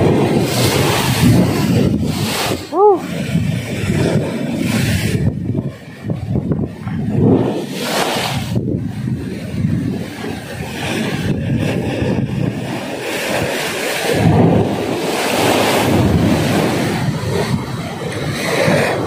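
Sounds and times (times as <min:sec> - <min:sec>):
surf washing against rocks: 0:00.0 - 0:19.0
wind buffeting microphone: 0:00.0 - 0:19.0.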